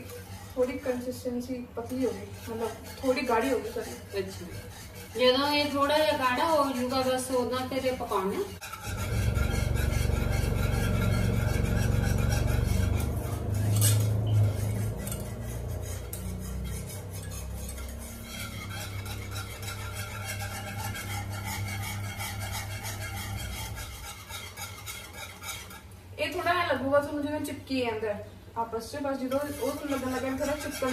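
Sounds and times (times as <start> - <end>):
whisk scraping metal pan: 0.0 - 27.6, 28.9 - 30.9
low steady hum: 0.0 - 30.9.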